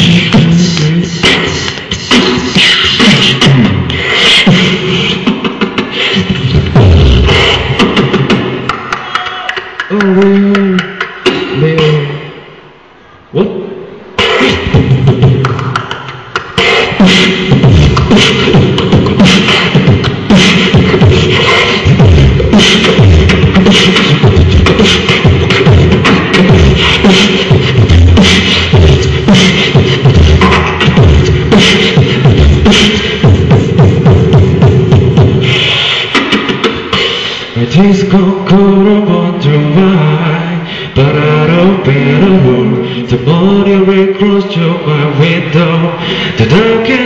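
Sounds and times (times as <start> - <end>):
beatboxing: 0.0 - 12.6, 13.3 - 47.0.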